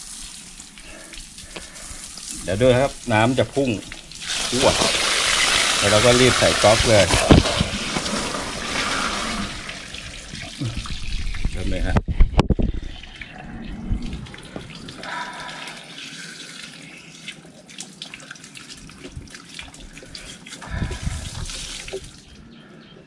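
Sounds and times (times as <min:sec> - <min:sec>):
water spurting and splashing: 0:00.0 - 0:22.4.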